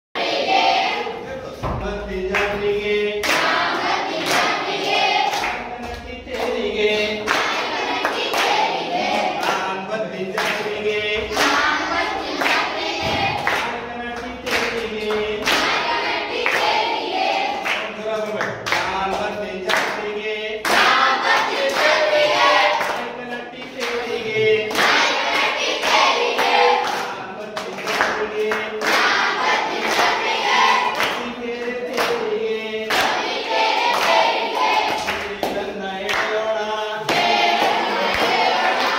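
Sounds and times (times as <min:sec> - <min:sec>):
children singing together: 0:00.2 - 0:01.8, 0:03.2 - 0:13.8, 0:14.5 - 0:17.8, 0:20.6 - 0:35.5, 0:36.8 - 0:38.9
hand claps: 0:02.3 - 0:11.7, 0:12.4 - 0:16.8, 0:17.5 - 0:22.0, 0:22.7 - 0:30.3, 0:30.9 - 0:31.3, 0:31.9 - 0:36.4, 0:37.0 - 0:38.9.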